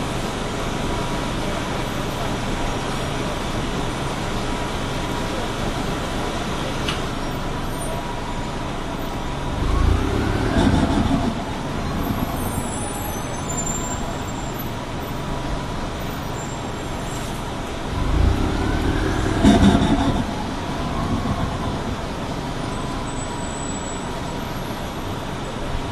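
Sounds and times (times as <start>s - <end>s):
bus engine whining: 0.0s - 25.9s.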